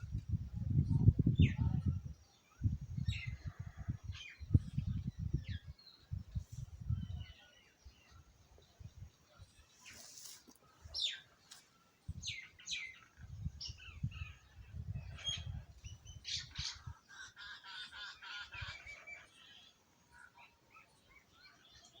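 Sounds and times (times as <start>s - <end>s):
small birds chirping: 0.7s - 22.0s.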